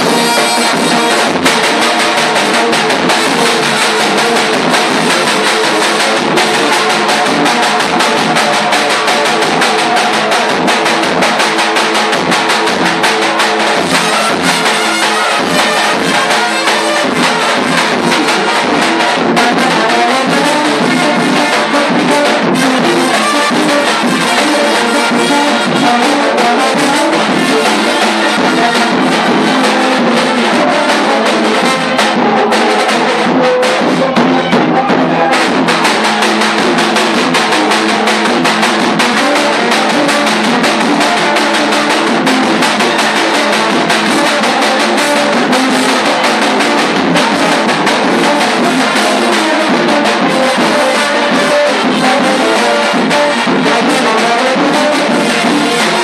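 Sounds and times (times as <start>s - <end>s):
brass horns playing tune: 0.0s - 12.1s, 12.8s - 56.0s
bass drum beat: 0.0s - 56.0s.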